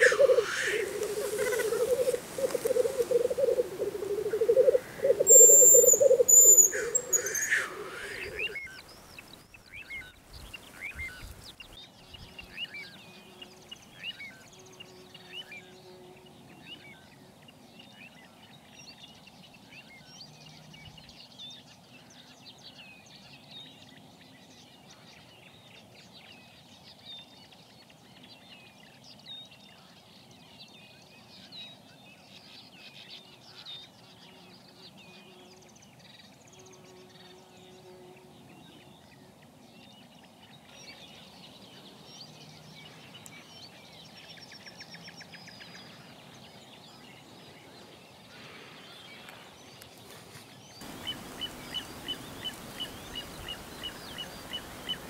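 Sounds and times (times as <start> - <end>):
wild birds chirping: 0.0 - 55.0.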